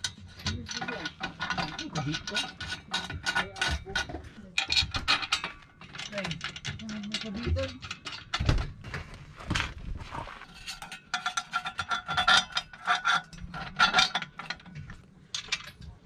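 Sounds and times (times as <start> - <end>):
metal bolts clinking and scraping: 0.0 - 16.0.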